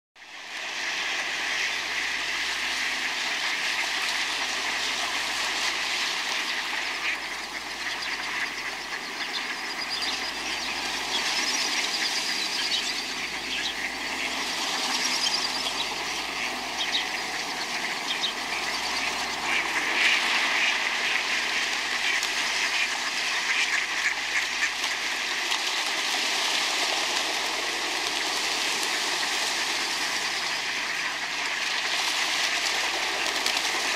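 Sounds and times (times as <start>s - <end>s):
ducks quacking: 1.1s - 33.9s.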